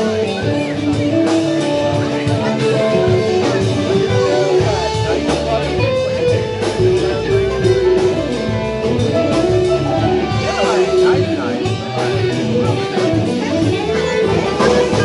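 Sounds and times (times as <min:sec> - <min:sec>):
bass line: 0:00.0 - 0:15.0
rock band music: 0:00.0 - 0:15.0.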